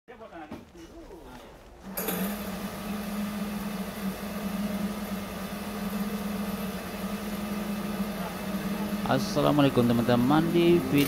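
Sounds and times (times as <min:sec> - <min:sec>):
stone-cutting saw motor hum: 0:01.9 - 0:11.0.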